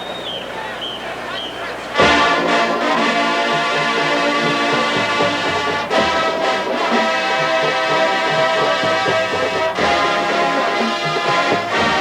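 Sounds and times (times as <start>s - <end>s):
marching band playing brass music: 0.0s - 12.0s.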